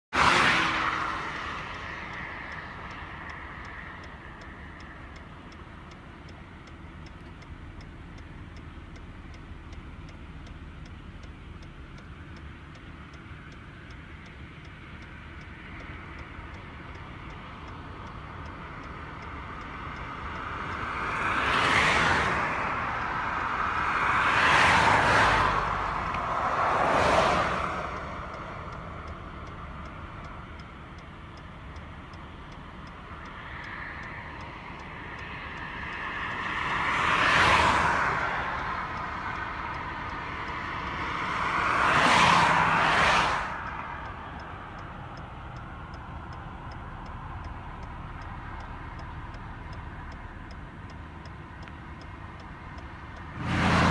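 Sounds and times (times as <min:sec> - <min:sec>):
steady traffic hum: 0:00.0 - 0:53.9
vehicles passing close: 0:00.1 - 0:53.9.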